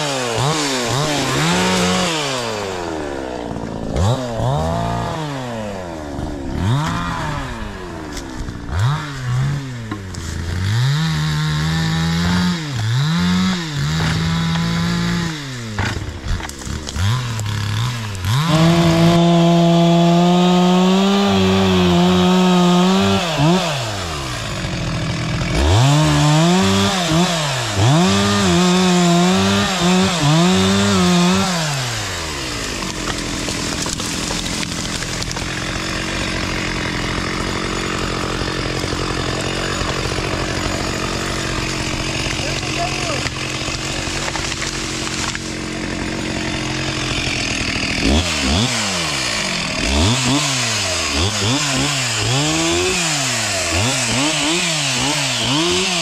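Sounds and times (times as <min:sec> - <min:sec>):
chainsaw revving: 0:00.0 - 0:56.0.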